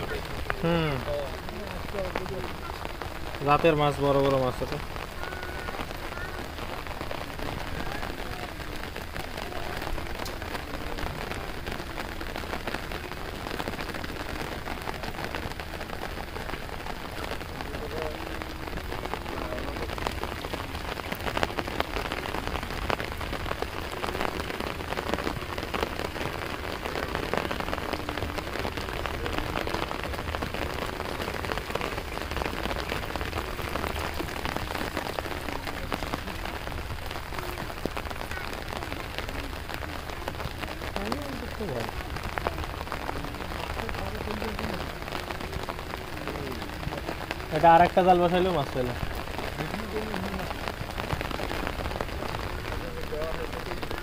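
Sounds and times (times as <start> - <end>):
rain falling on water: 0.0 - 54.0.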